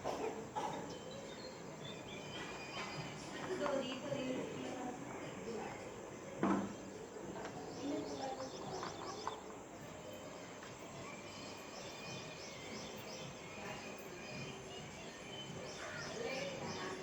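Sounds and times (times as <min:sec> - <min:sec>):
outdoor background noise: 0:00.0 - 0:17.0
small birds chirping: 0:00.0 - 0:17.0.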